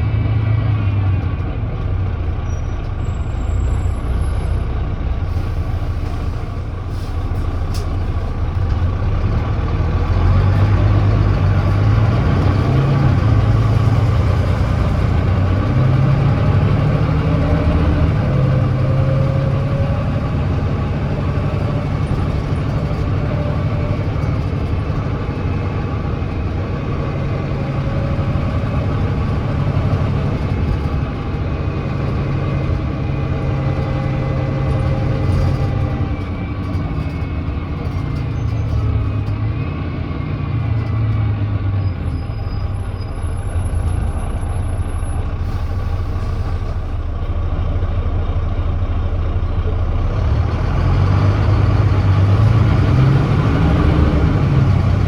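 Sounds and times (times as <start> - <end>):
bus diesel engine pulling uphill: 0.0 - 55.0.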